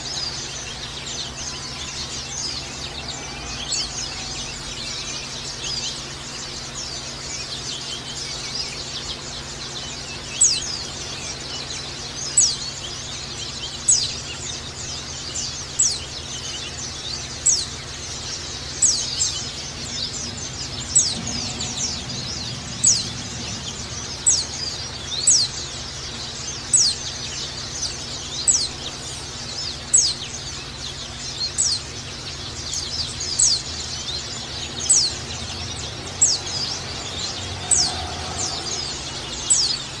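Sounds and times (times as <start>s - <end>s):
faint high bird twittering: 0.0s - 40.0s.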